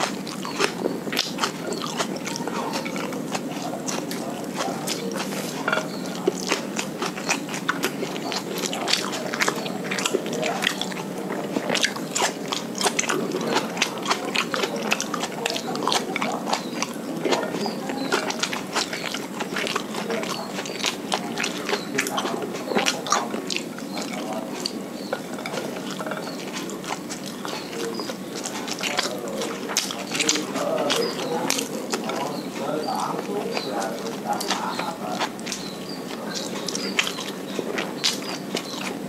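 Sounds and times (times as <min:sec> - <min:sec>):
chewing and wet mouth sounds: 0:00.0 - 0:39.0
lip and teeth clicks: 0:00.0 - 0:39.0.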